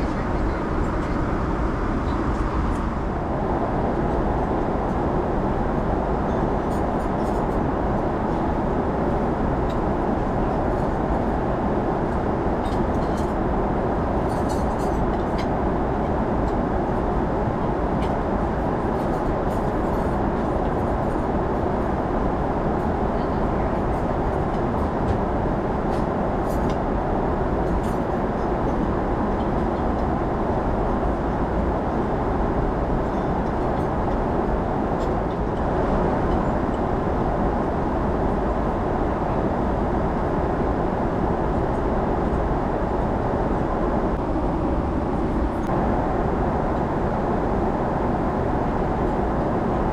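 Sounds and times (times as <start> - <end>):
jet engine cabin roar: 0.0 - 49.9.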